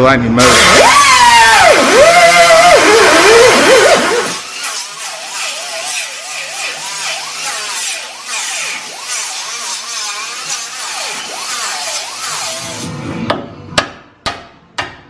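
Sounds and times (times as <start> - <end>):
power tool motor whine on metal: 0.4 - 12.9.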